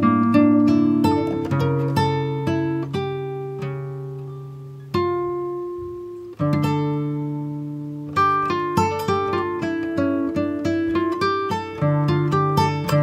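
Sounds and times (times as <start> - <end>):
slow acoustic guitar: 0.0 - 13.0.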